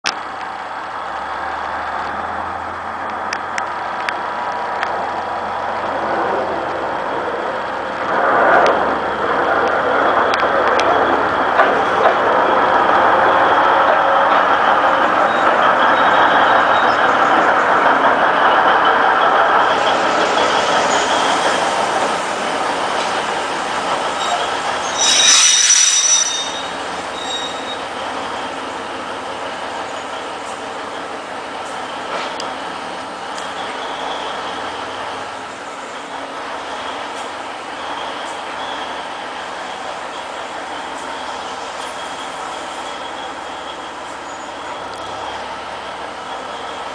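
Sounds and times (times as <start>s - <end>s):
train running on track: 0.0s - 46.9s
wheels squealing on rails: 3.7s - 46.9s.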